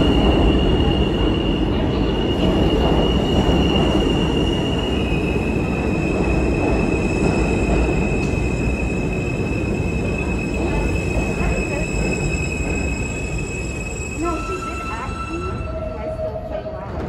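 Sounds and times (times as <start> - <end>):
high train whine: 0.0 - 17.0
subway train rumbling and rattling: 0.0 - 17.0.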